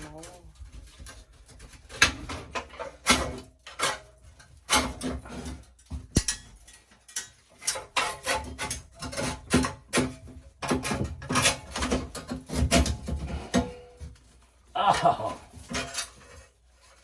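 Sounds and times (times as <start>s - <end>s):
metal parts clicking and knocking: 0.0s - 14.0s.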